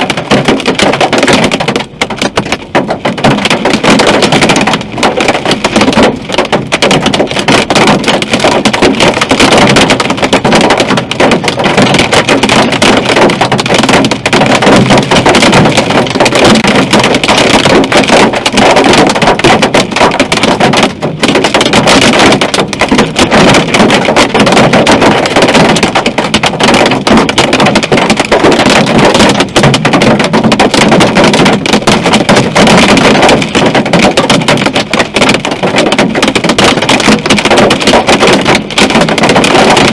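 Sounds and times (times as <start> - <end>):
hail and rain on car roof: 0.0 - 39.9.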